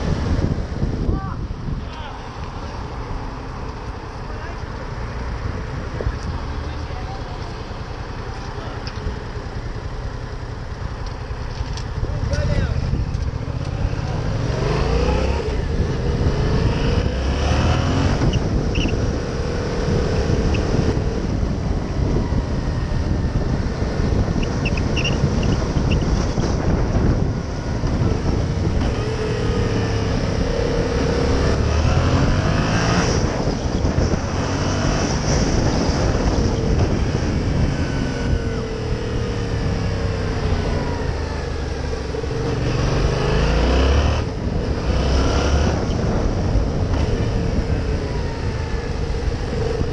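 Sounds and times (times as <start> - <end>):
wind and road noise: 0.0 - 49.9
motorcycle engine accelerating: 5.4 - 49.9.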